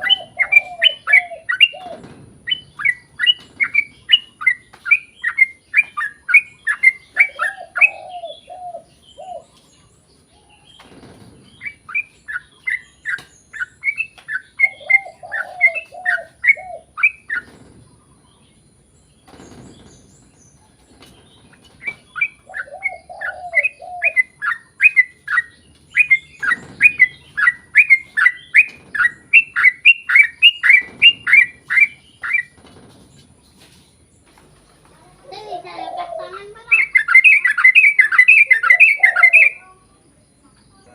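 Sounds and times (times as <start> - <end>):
bird chattering song: 0.0 - 34.4, 35.3 - 40.9.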